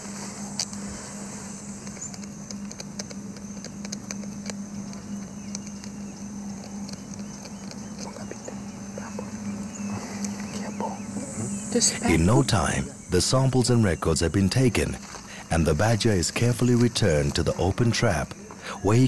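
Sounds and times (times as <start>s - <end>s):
insect drone: 0.0s - 19.0s
low steady hum: 0.0s - 19.0s.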